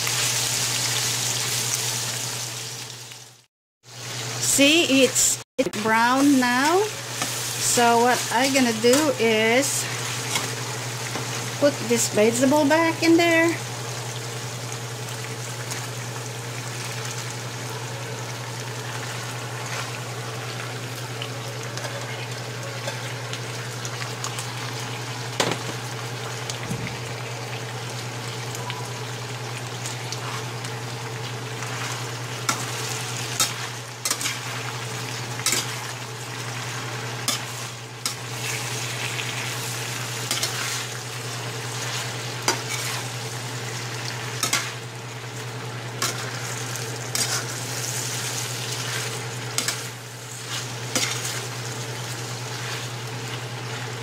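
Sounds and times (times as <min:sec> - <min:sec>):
pork and vegetables sizzling: 0:00.0 - 0:54.0.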